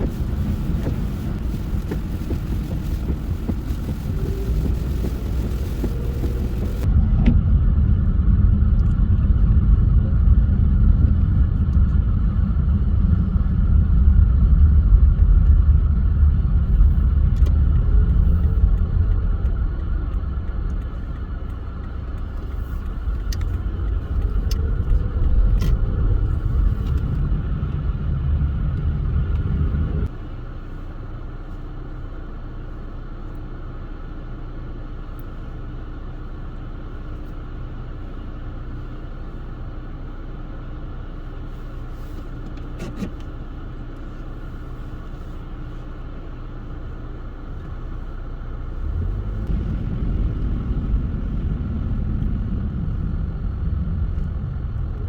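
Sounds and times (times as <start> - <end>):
car tyres and engine rumbling: 0.0 - 55.0.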